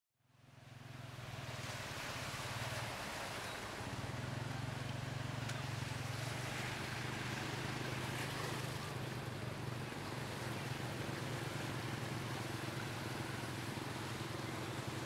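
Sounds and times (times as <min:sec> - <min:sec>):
water splashing around wheels: 0:00.4 - 0:15.0.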